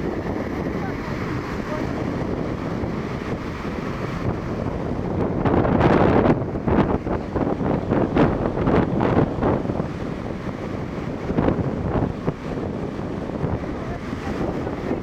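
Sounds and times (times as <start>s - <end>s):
surf washing on shore: 0.0s - 15.0s
wave breaking: 0.0s - 15.0s
wind buffeting microphone: 0.0s - 15.0s.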